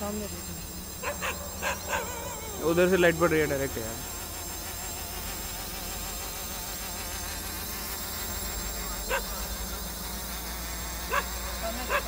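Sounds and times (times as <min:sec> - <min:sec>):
quadcopter propellers buzzing: 0:00.0 - 0:12.0.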